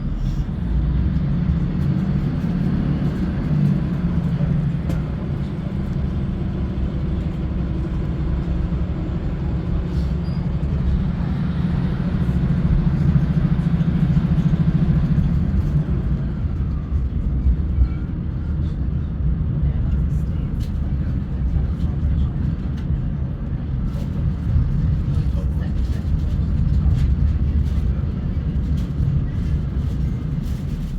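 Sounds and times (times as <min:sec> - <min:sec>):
train engine and wheels rumbling: 0:00.0 - 0:30.9.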